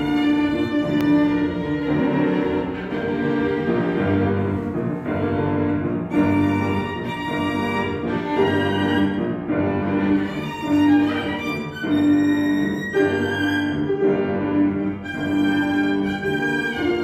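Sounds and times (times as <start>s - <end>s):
piano accompaniment: 0.0s - 17.0s
violin long bowed notes: 0.0s - 17.0s.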